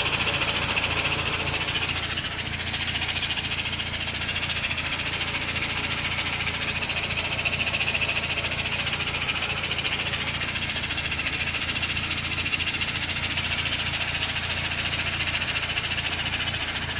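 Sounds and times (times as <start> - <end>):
engine running with rattling tick: 0.0 - 16.9.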